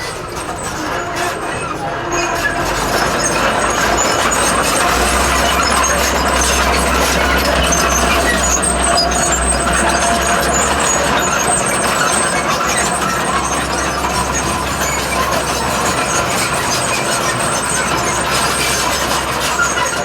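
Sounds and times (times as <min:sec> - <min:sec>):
bulldozer diesel engine running: 0:00.0 - 0:20.0
metal tracks rattling and clanking: 0:00.0 - 0:20.0.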